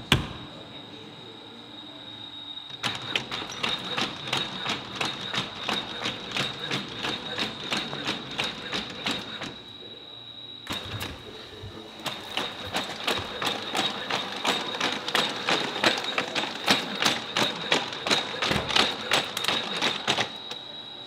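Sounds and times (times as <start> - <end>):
high-pitched whine: 0.0 - 21.0.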